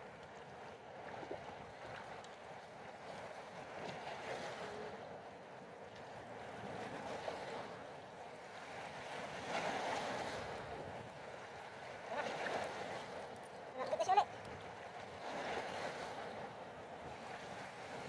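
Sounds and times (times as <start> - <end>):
sea water sloshing: 0.2 - 18.0.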